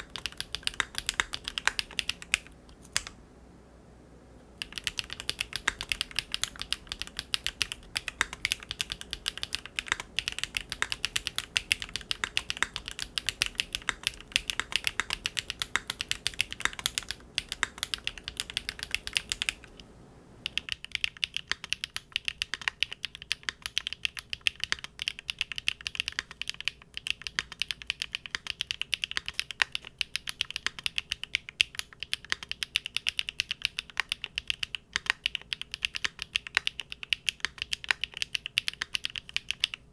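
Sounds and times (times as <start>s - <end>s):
typing on mechanical keyboard: 0.0s - 3.2s, 4.6s - 19.8s, 20.4s - 39.9s.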